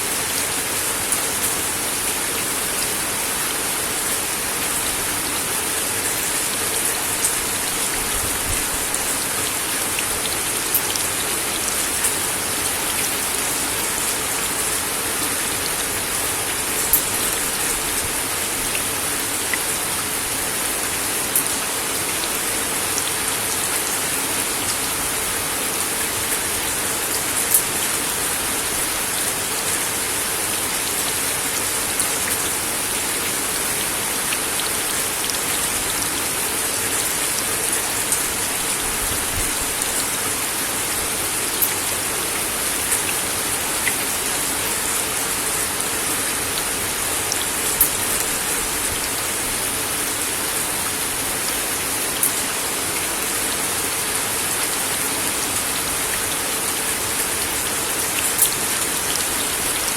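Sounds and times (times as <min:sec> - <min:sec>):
rain on a wooden deck: 0:00.0 - 0:59.9.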